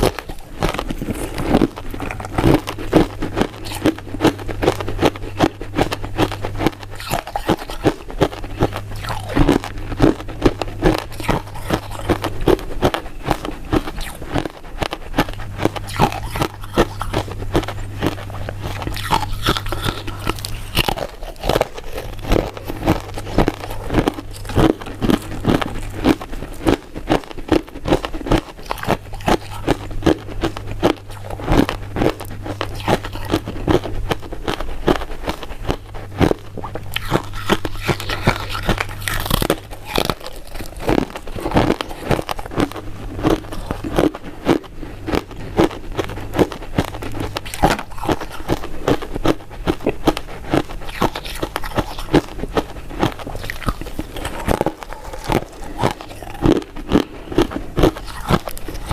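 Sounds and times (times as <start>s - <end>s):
chewing sweets: 0.0s - 58.9s.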